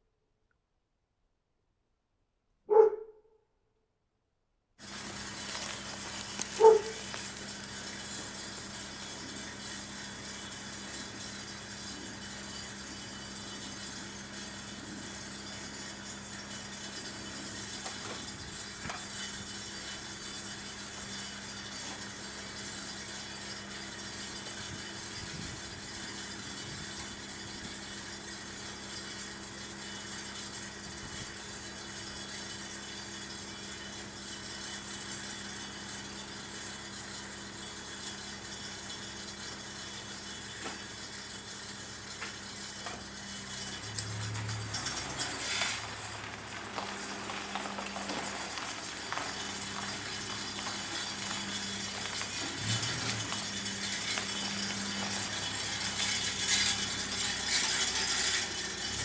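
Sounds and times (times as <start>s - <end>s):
low engine hum: 4.8s - 34.2s, 35.5s - 59.0s
vehicle engine moving off: 4.8s - 59.0s.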